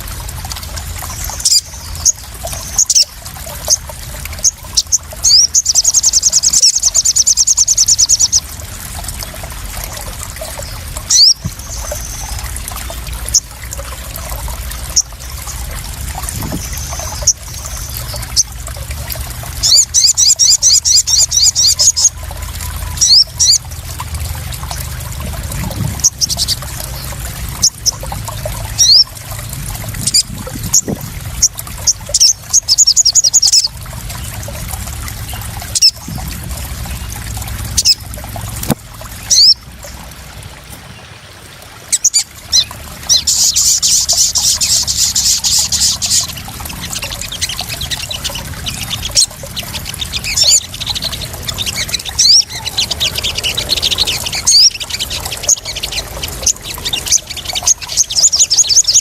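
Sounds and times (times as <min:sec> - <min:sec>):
bird chirps and trills: 0:00.0 - 0:41.1, 0:41.8 - 0:59.0
water trickling and splashing: 0:00.0 - 0:59.0.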